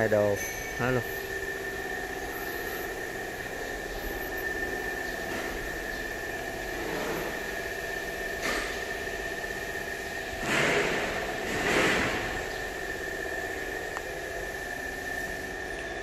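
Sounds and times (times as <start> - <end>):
mechanical hum with high whine: 0.0 - 16.0.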